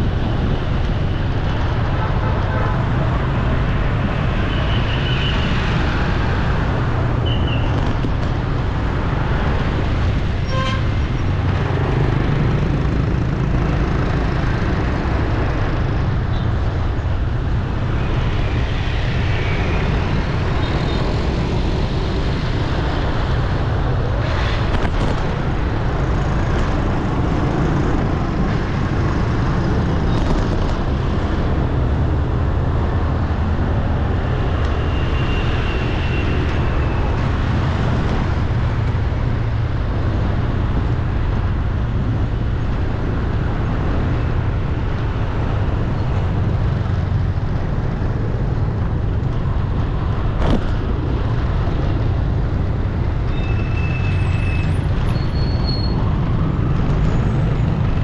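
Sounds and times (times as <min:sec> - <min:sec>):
city road traffic rumble: 0:00.0 - 0:58.0.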